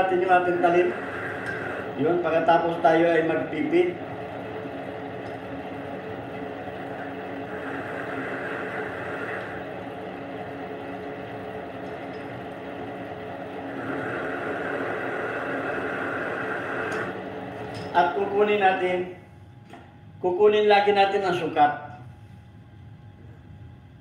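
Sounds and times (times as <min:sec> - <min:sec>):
lathe motor hum: 0:00.0 - 0:20.2.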